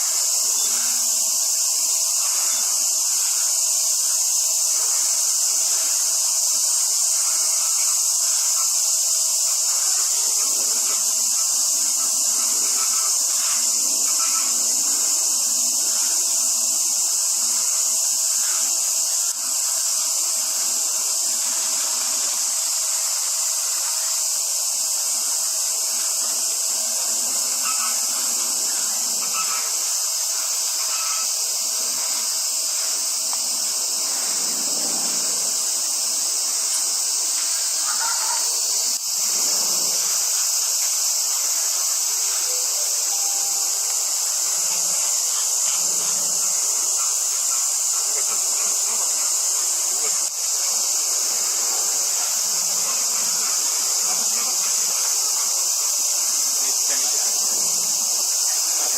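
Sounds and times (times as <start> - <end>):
cicadas buzzing: 0.0 - 58.9.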